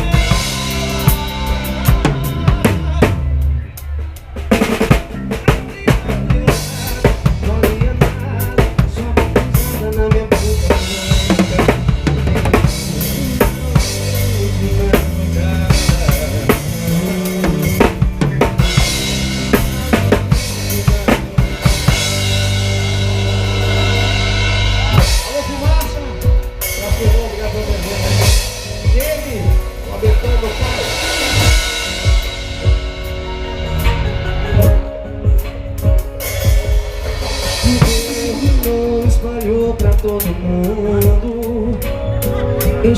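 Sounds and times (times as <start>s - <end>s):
drum kit groove: 0.0s - 42.9s
live band playing: 0.0s - 42.9s.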